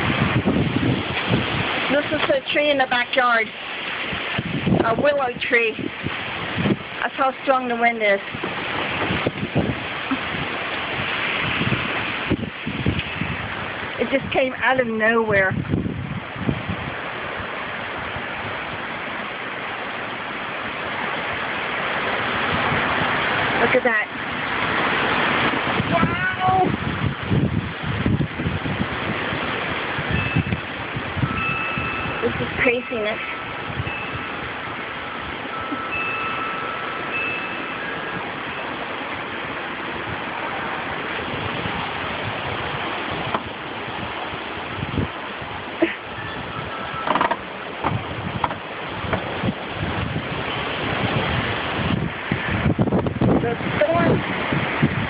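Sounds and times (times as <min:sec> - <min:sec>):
storm wind rushing through tree: 0:00.0 - 0:55.0
wind rumbling on microphone: 0:00.0 - 0:55.0.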